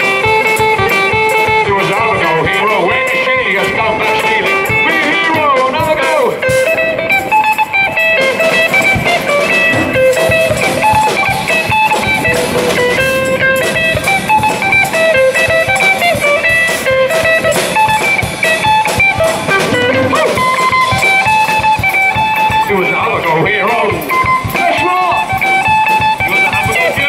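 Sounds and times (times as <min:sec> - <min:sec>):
drum kit playing: 0:00.0 - 0:27.0
electric guitar through amplifier: 0:00.0 - 0:27.0.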